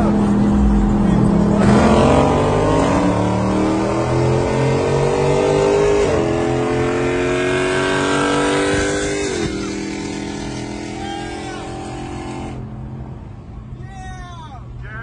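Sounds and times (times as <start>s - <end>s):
car engine accelerating: 0.0s - 13.4s.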